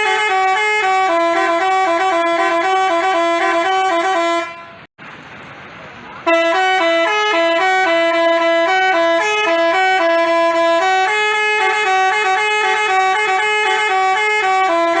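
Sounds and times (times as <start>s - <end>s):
multi-tone bus horn tune: 0.0s - 4.9s, 6.2s - 15.0s.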